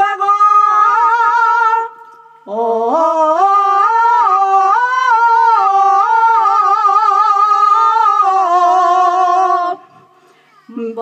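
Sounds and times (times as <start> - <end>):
woman singing unaccompanied: 0.0 - 9.9, 10.7 - 11.0.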